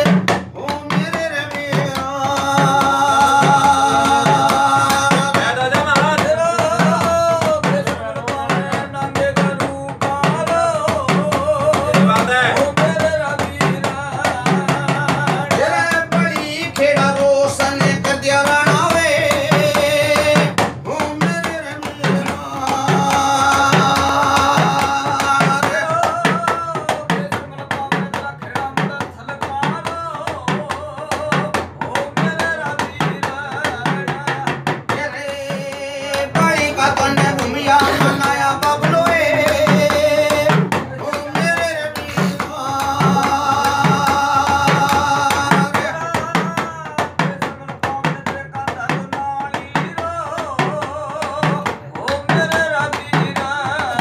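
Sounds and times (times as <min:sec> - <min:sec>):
drums beaten with stick: 0:00.0 - 0:54.0
men singing devotional song: 0:00.0 - 0:54.0.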